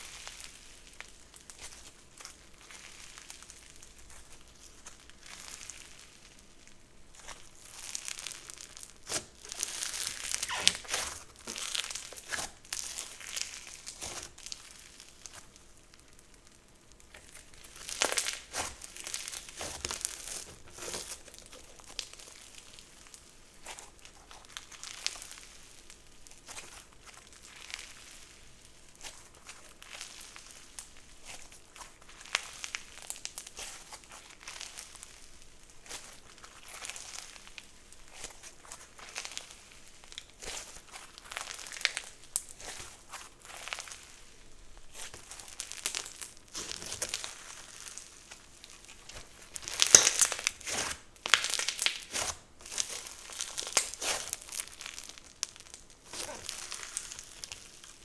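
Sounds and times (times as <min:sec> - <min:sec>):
slime squished by hand crackling: 0:07.2 - 0:28.4, 0:29.0 - 0:58.0.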